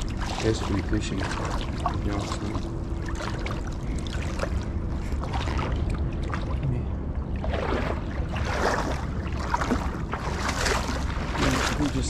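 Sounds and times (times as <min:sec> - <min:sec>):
low rumble: 0:00.0 - 0:12.0
river water splashing: 0:00.0 - 0:12.0.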